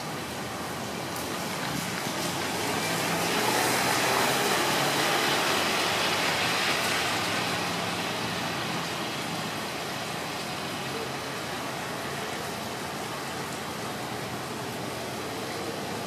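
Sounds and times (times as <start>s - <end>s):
tyre hiss on wet pavement: 0.0s - 16.0s.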